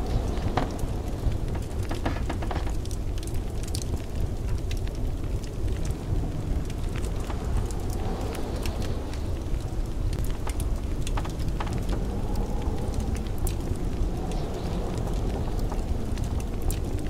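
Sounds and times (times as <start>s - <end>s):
blizzard wind rumbling: 0.0s - 17.0s
wood fire crackling and popping: 0.0s - 17.0s.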